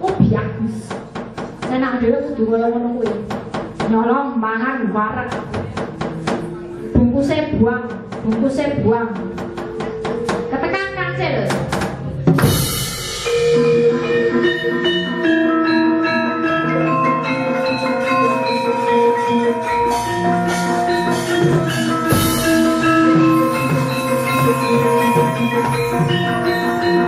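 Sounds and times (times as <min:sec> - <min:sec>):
drum strokes: 0:00.1 - 0:01.8, 0:03.1 - 0:04.0, 0:05.3 - 0:10.8, 0:11.4 - 0:27.0
bronze metallophone notes: 0:05.2 - 0:27.0.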